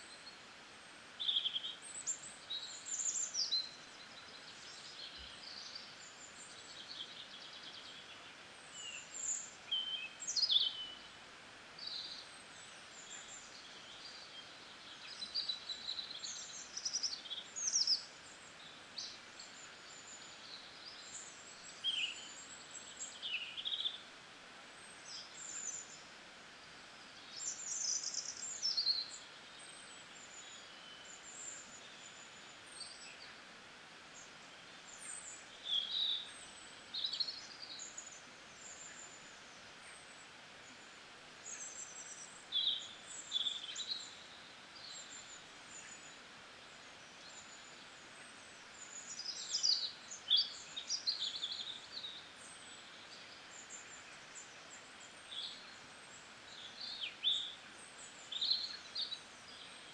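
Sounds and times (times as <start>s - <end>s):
faint steady hiss: 0.0s - 59.9s
small birds chirping: 0.0s - 59.9s.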